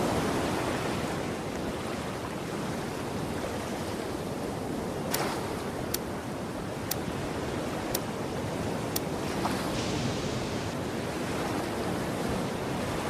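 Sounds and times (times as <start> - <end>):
sea waves washing: 0.0 - 13.0.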